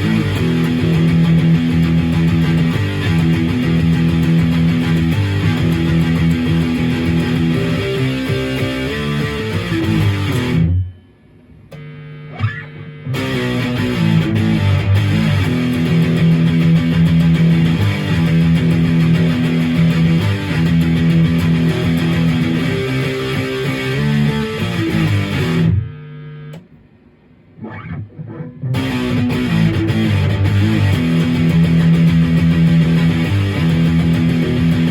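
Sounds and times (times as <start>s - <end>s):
faint picked guitar notes: 0.0s - 11.0s, 11.8s - 25.9s, 27.6s - 34.9s
distorted electric guitar riff: 0.0s - 26.7s, 27.5s - 34.9s.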